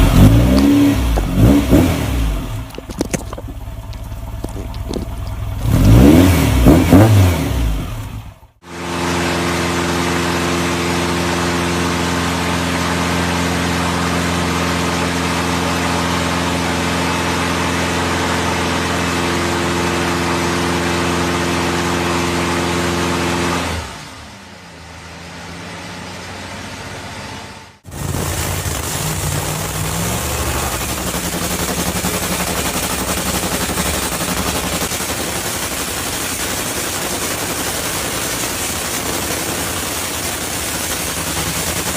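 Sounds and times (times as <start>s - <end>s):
engine revving: 0.0s - 24.4s, 25.0s - 41.9s.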